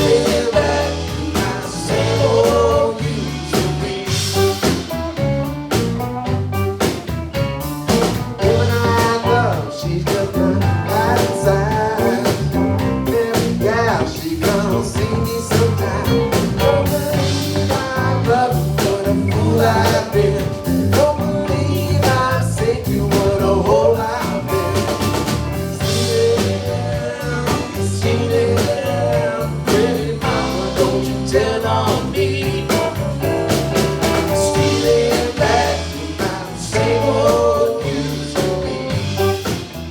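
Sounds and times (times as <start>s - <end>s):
person singing: 0.0s - 5.0s, 8.4s - 25.1s, 25.8s - 39.6s
live blues band: 0.0s - 39.9s.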